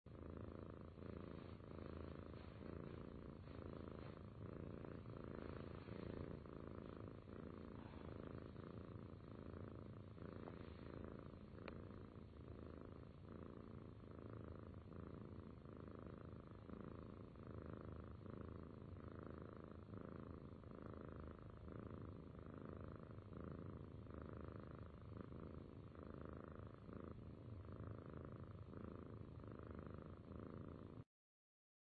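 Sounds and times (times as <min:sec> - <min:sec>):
cat purring: 0:00.0 - 0:31.1.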